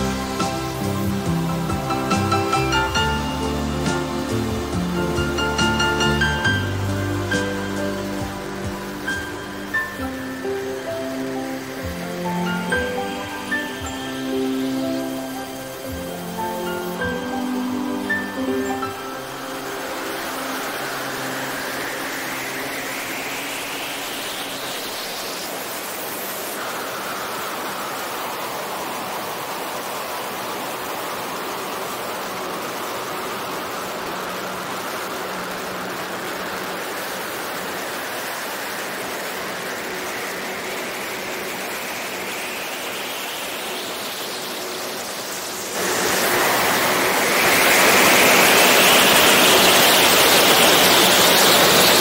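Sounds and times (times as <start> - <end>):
airflow rushing: 0.0 - 52.0
high whine: 0.0 - 52.0
model plane engines droning: 0.0 - 52.0.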